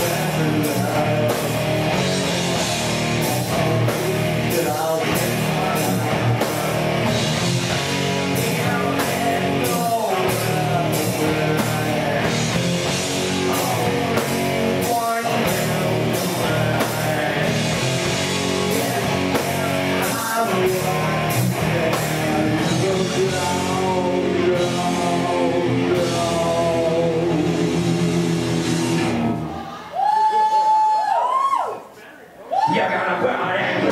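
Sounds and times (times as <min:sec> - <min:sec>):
male singer: 0:00.0 - 0:28.5, 0:32.7 - 0:33.9
distorted electric guitars: 0:00.0 - 0:29.8
bass guitar: 0:00.0 - 0:30.0.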